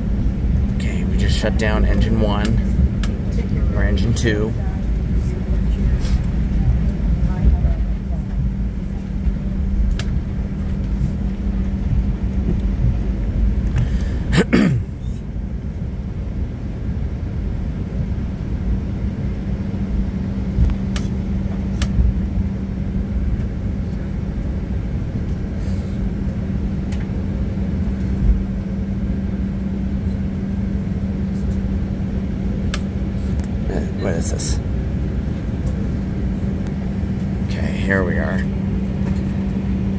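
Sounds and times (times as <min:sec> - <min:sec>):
aircraft cabin rumble and hum: 0:00.0 - 0:39.9
falling whine with rush: 0:00.0 - 0:39.9.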